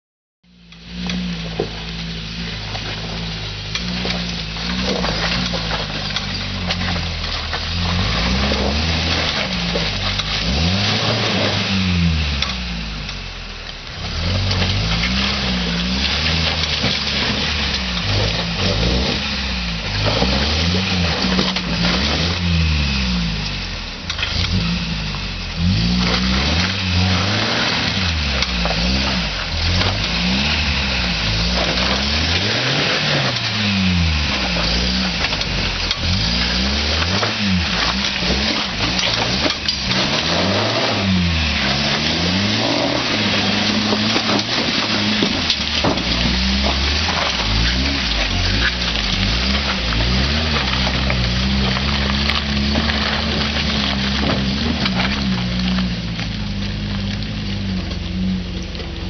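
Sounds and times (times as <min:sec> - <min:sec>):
pickup engine revving: 0:00.6 - 0:59.0.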